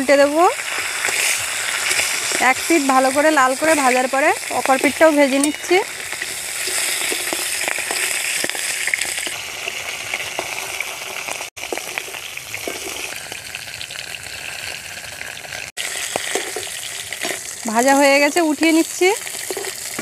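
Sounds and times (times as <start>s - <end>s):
fish frying in oil: 0.0s - 20.0s.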